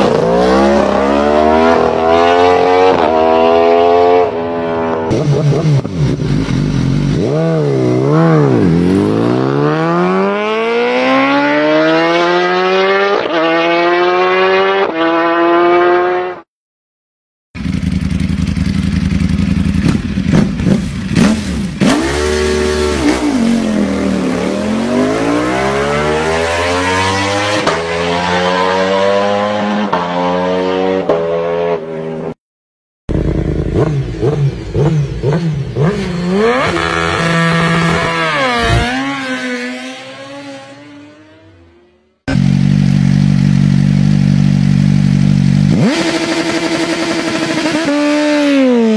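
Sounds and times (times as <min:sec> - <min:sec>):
motorcycle engine revving: 0:00.0 - 0:16.5, 0:17.6 - 0:32.4, 0:33.1 - 0:48.9.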